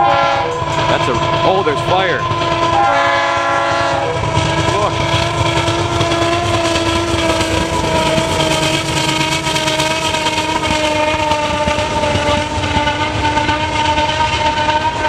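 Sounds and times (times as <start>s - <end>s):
locomotive engine rumble: 0.0s - 15.0s
locomotive horn blast: 0.0s - 15.0s.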